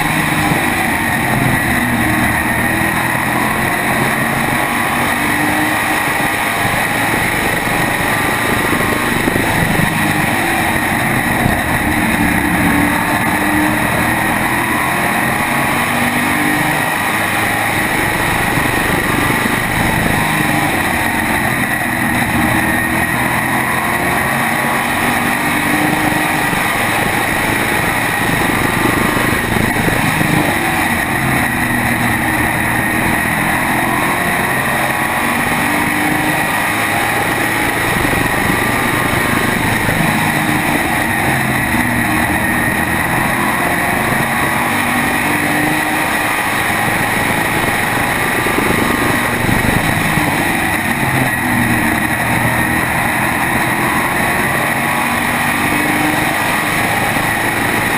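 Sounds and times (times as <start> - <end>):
race car engine at speed: 0.0 - 57.9
steady high whine: 0.0 - 57.9.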